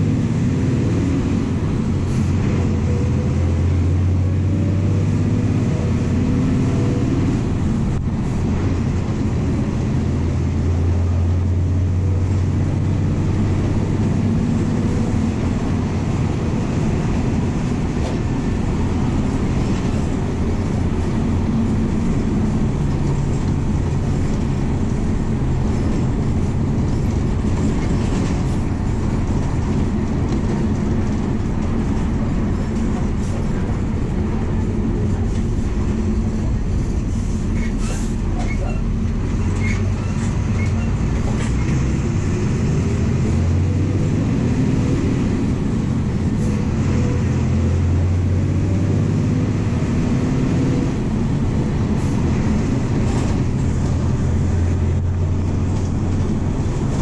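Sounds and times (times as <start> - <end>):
bus engine running: 0.0 - 57.0
road noise: 0.0 - 57.0.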